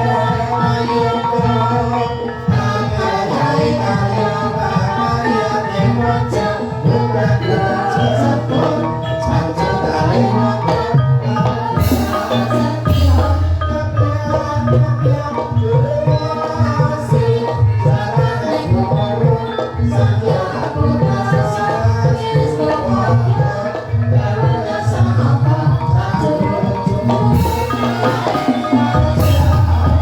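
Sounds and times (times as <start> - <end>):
drum strokes: 0.0 - 30.0
tuned percussion melody: 0.0 - 30.0.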